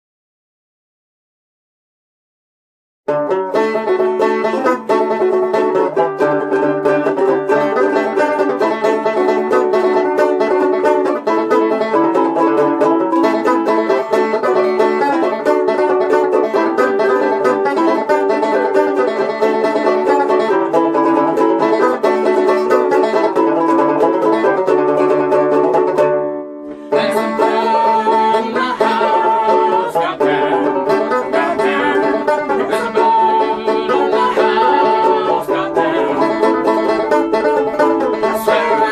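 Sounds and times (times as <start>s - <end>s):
folk tune on plucked strings: 3.1s - 38.9s.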